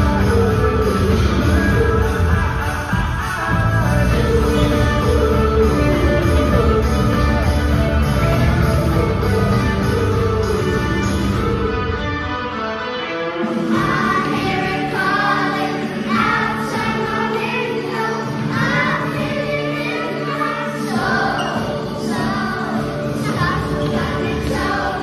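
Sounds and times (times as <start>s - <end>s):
song with sung vocals: 0.0s - 25.0s.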